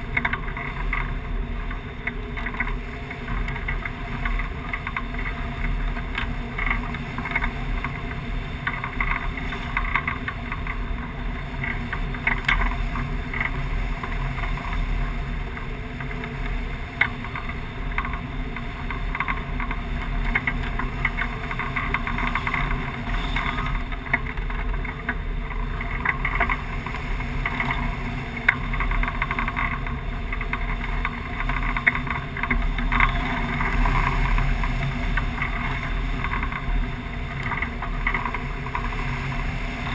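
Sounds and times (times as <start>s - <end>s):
crackles of wind buffeting: 0.0s - 39.9s.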